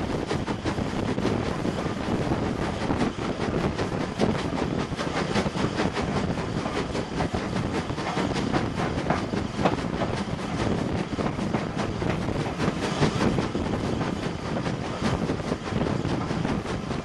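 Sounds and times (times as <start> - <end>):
steam locomotive running: 0.0 - 17.0.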